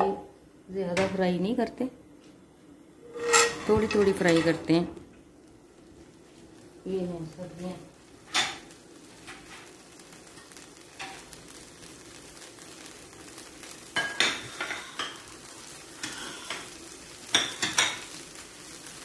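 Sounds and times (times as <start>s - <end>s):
oil sizzling in a frying pan: 2.8s - 19.0s.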